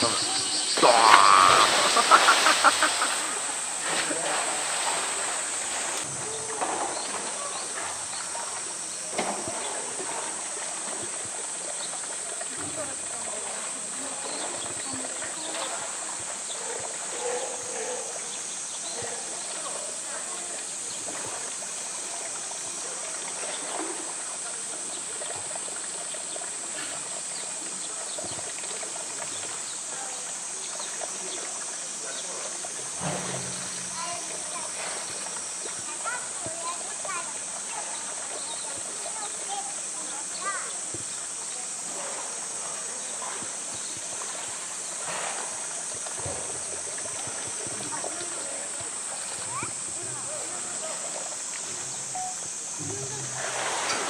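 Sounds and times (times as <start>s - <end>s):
cicadas droning: 0.0s - 54.0s
water churning and lapping: 0.0s - 54.0s
water splashing: 0.0s - 54.0s.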